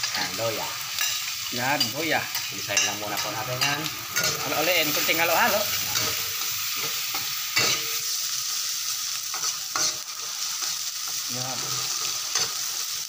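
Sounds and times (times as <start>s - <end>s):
metal spatula scraping wok: 0.0s - 8.2s, 9.3s - 12.9s
ginger sizzling in hot oil: 0.0s - 13.0s.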